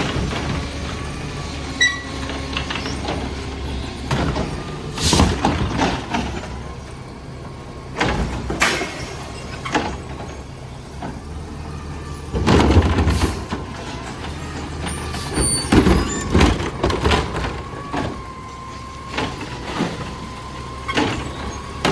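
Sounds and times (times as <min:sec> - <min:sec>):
banging clatter and hiss of carts: 0:00.0 - 0:06.9, 0:07.9 - 0:21.9
garbage truck engine running: 0:00.0 - 0:21.9.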